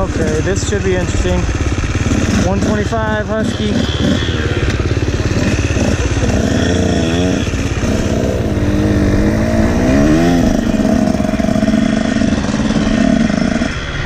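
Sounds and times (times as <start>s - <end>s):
motocross engine revving: 0.0s - 14.0s.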